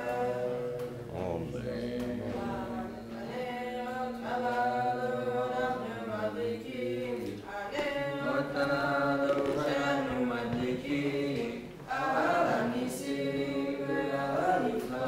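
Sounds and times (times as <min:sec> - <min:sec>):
voices chanting slow melody: 0:00.0 - 0:15.0.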